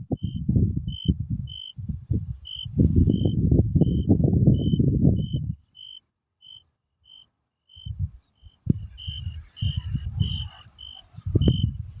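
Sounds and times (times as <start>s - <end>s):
crickets chirping: 0.0s - 12.0s
high insect trill: 0.0s - 12.0s.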